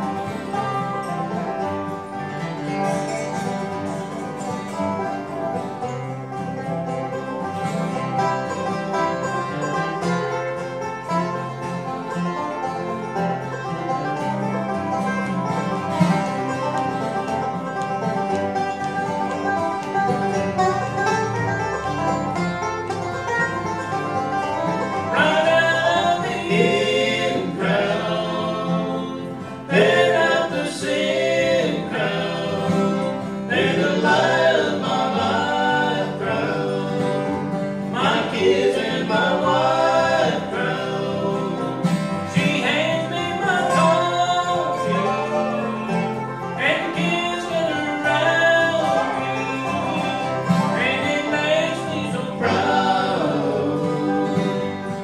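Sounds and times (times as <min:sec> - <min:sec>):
banjo: 0:00.0 - 0:55.0
bluegrass band playing: 0:00.0 - 0:55.0
resonator guitar with steel bar: 0:00.0 - 0:55.0.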